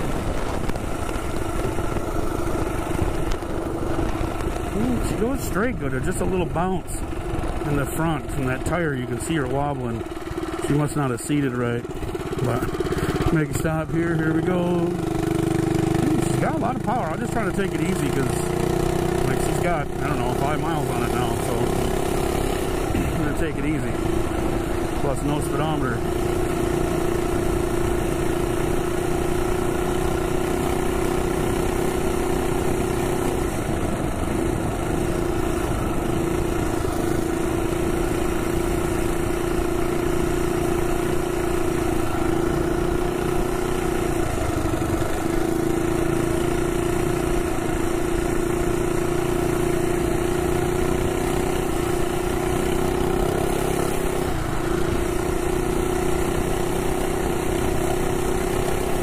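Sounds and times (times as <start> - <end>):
minibike engine running: 0.0 - 59.0.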